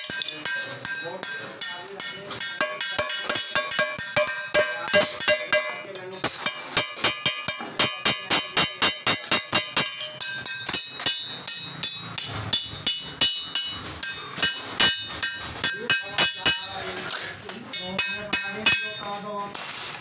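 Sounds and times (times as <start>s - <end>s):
hammer striking steel sheet: 0.0s - 16.9s.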